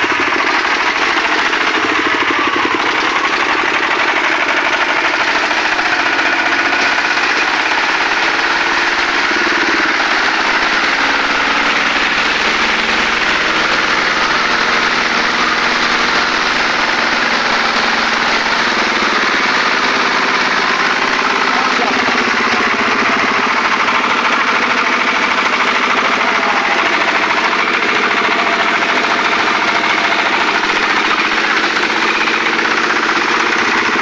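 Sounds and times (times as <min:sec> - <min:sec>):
single-cylinder diesel engine running: 0:00.0 - 0:34.0.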